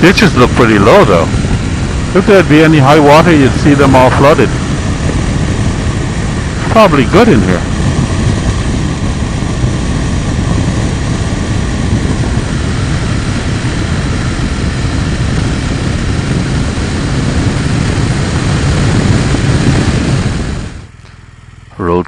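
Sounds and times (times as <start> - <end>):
wind noise on microphone: 0.0 - 21.0
motorcycle engine running: 0.0 - 22.0.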